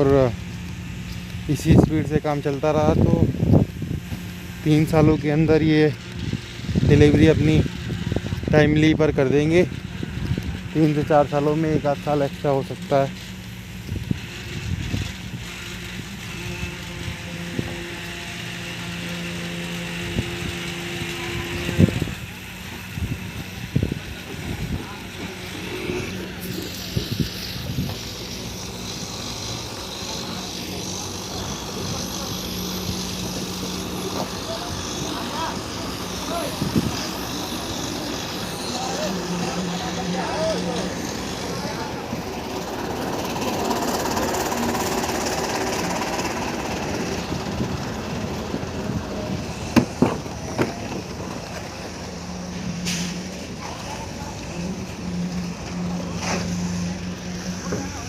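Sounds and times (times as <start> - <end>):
construction mechanical din: 0.0 - 58.0
engine running: 0.0 - 58.0.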